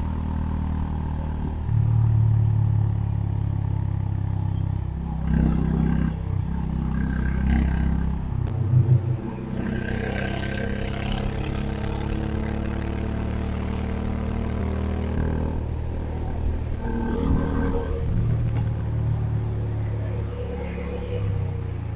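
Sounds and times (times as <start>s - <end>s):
motorcycle engine and exhaust: 0.0s - 21.9s.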